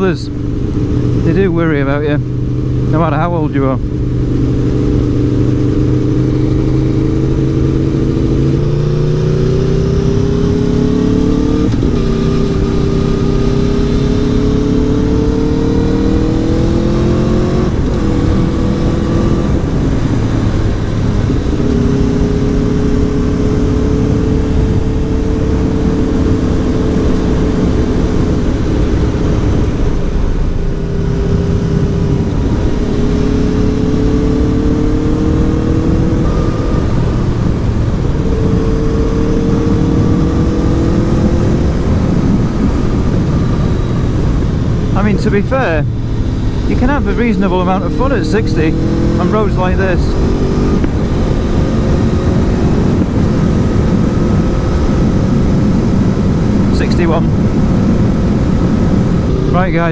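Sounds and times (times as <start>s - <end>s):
motorcycle engine accelerating: 0.0s - 59.9s
wind rush: 3.6s - 59.9s.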